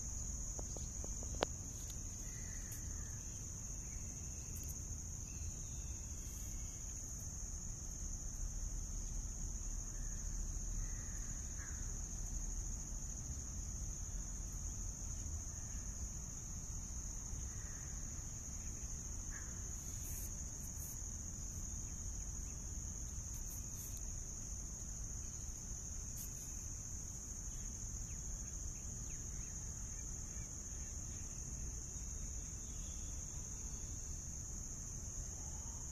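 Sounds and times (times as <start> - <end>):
high-pitched insect chorus: 0.0 - 35.9.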